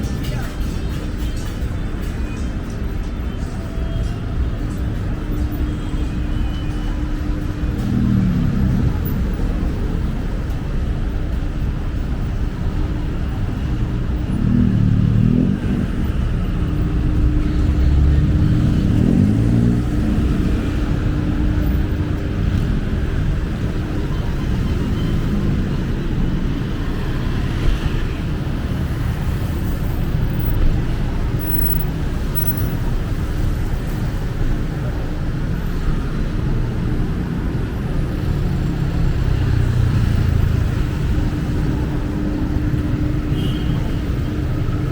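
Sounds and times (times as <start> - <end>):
road traffic rumble: 0.0 - 44.9
vehicles passing close by: 0.0 - 44.9.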